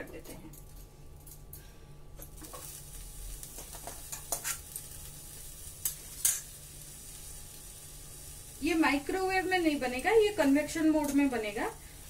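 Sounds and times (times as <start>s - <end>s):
batter sizzling in a pan: 2.3s - 12.0s.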